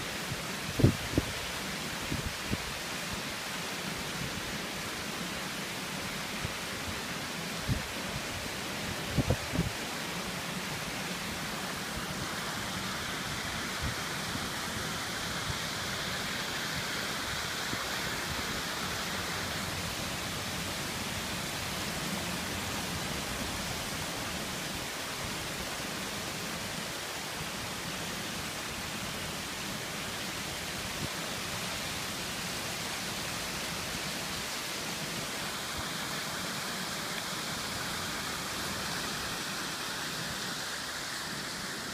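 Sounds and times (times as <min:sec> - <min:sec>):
fountain water falling: 0:00.0 - 0:41.9.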